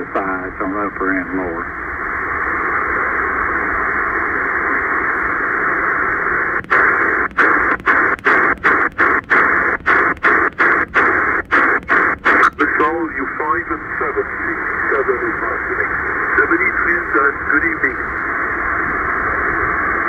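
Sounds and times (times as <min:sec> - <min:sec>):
shortwave radio static hiss: 0:00.0 - 0:20.0.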